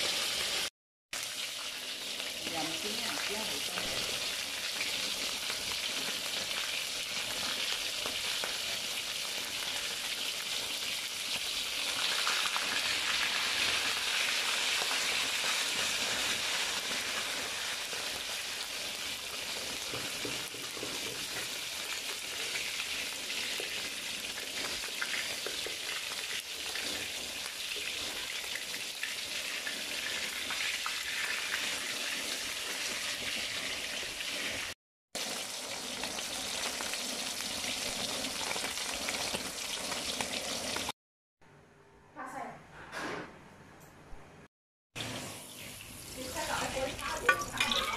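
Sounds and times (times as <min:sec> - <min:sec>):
fish sizzling in hot oil: 0:00.0 - 0:41.0, 0:45.0 - 0:47.9.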